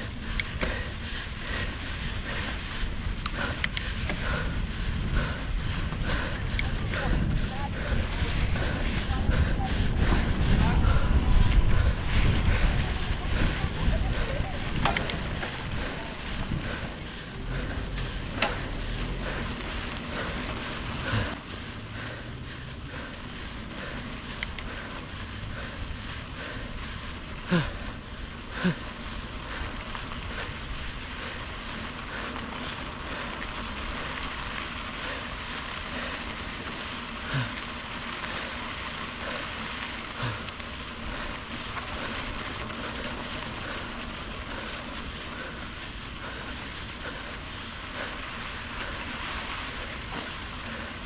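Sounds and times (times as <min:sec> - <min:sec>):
wind and road noise: 0:00.0 - 0:51.0.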